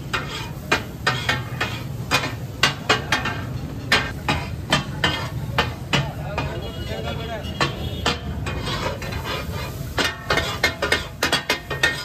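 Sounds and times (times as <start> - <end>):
metal spatulas clanging on griddle: 0.0 - 12.0.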